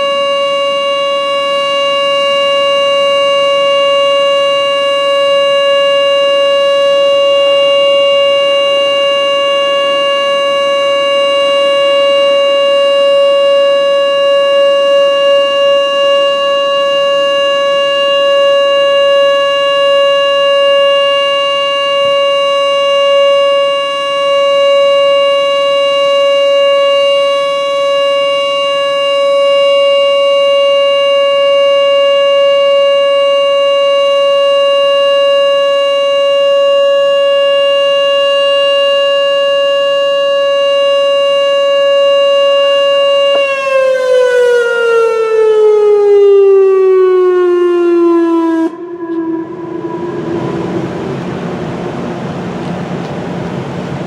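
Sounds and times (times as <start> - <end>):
electronic warning siren steady tone: 0.0 - 54.0.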